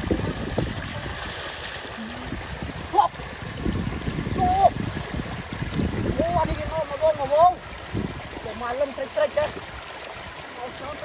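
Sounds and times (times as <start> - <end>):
water splashing around wading legs: 0.0 - 11.0.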